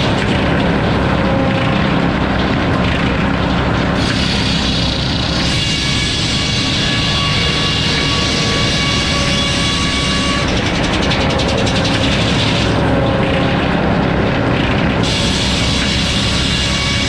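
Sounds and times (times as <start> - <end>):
heavy mechanical noise: 0.0 - 17.0
circular saw blade whining: 0.7 - 14.4, 15.0 - 17.0.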